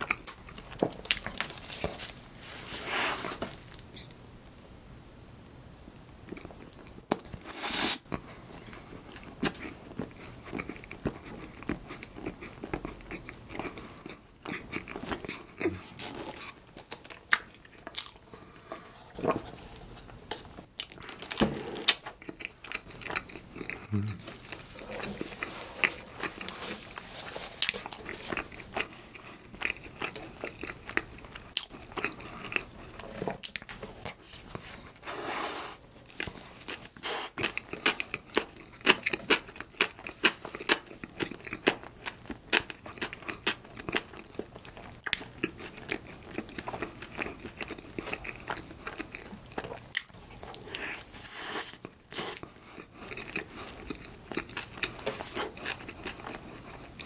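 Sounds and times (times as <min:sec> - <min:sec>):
chewing soft bread: 0:00.0 - 0:04.2, 0:06.2 - 0:57.0.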